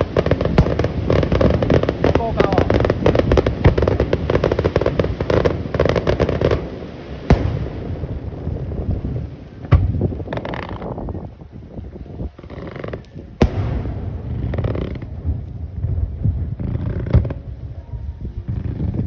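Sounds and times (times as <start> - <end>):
firework bangs: 0.0 - 11.1, 12.4 - 17.8
fireworks crackling: 0.0 - 19.0.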